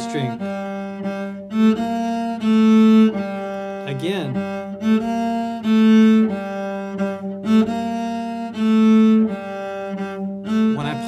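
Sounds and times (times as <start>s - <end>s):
cello bowed held notes: 0.0s - 11.0s.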